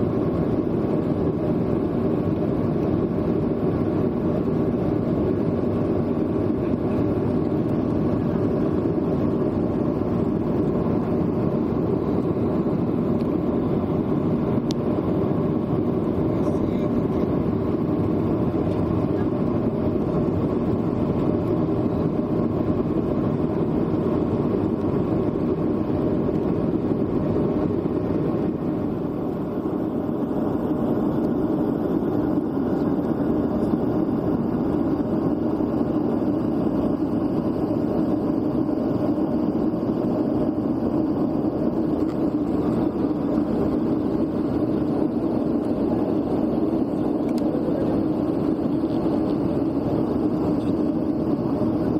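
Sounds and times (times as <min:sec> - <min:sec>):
jet engine drone and rushing air: 0:00.0 - 0:51.9.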